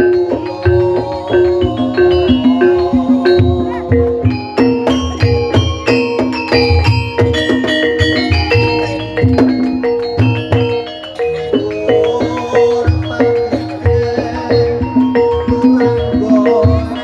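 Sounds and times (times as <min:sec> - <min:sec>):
gamelan music: 0:00.0 - 0:17.0.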